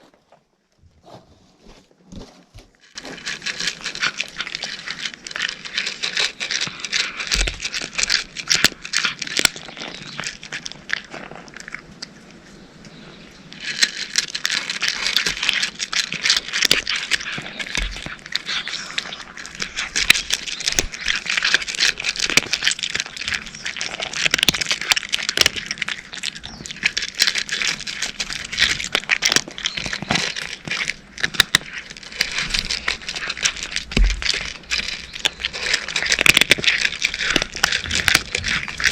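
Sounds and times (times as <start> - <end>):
cats crunching dry kibble: 0.0 - 38.9.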